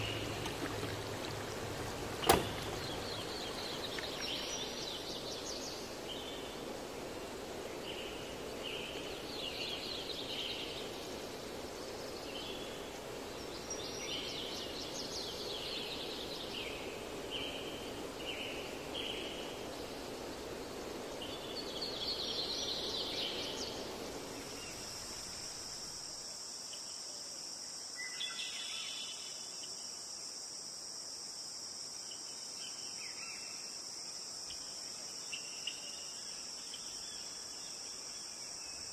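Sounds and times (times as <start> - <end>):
crickets trilling: 0.0 - 38.9
soft hiss: 0.0 - 38.9.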